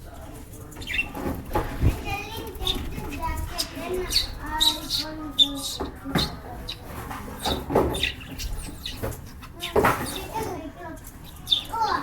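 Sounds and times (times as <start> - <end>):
birds chirping sharply: 0.6 - 12.0.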